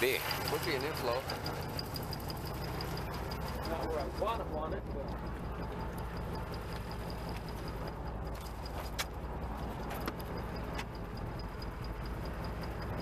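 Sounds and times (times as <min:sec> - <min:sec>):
engine idling hum: 0:00.0 - 0:13.0
fast high ticking: 0:00.0 - 0:13.0.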